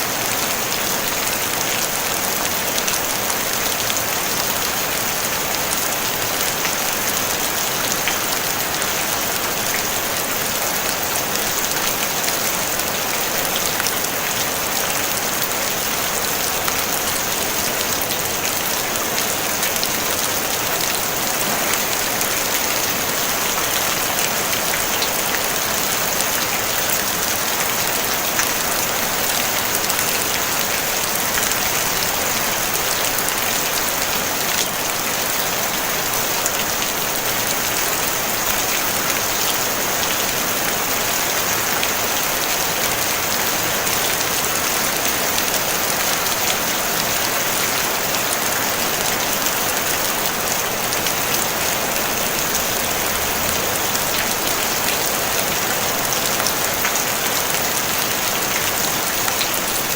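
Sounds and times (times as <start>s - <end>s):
rain on a tin roof: 0.0s - 59.9s.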